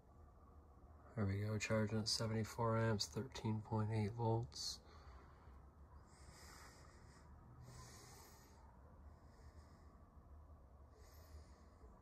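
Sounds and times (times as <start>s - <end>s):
faint low hum: 0.0s - 12.0s
soft breaths: 1.1s - 12.0s.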